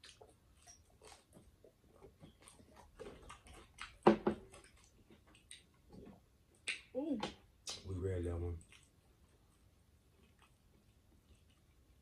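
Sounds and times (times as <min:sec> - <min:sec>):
chewing and mouth clicks: 0:00.0 - 0:06.9, 0:08.5 - 0:12.0.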